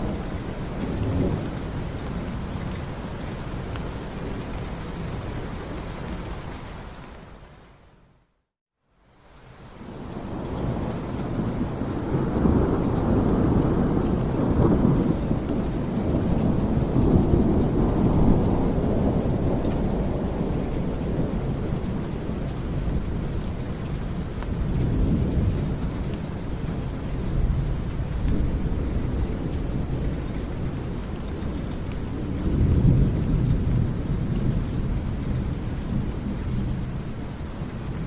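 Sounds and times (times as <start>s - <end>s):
low rolling thunder: 0.0s - 5.8s, 9.8s - 38.0s
steady rain: 0.0s - 38.0s.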